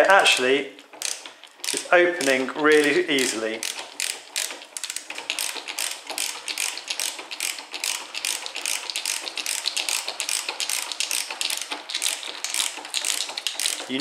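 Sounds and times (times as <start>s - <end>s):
ratchet screwdriver clicking: 0.3s - 13.9s.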